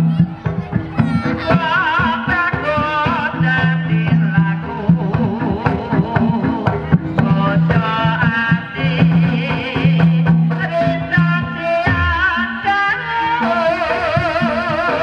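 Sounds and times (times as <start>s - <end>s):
rapid hand drum strokes: 0.0s - 15.0s.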